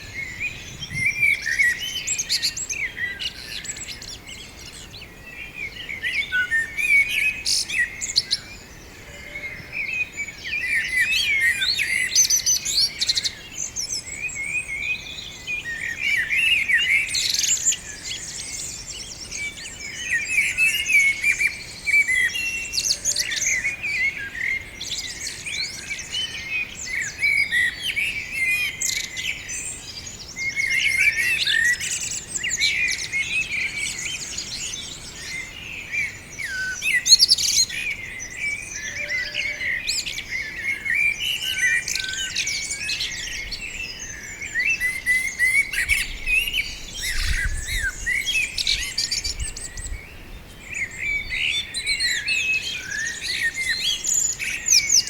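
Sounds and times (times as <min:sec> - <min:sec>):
songbirds chirping and singing: 0:00.0 - 0:55.0.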